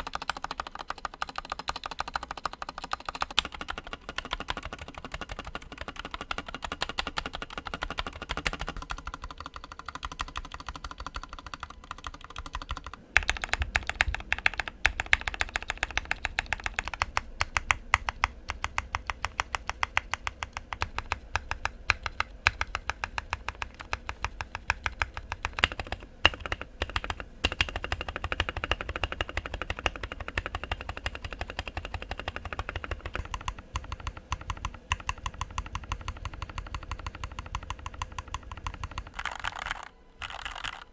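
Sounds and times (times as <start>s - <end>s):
fast mechanical keyboard typing: 0.0s - 40.9s.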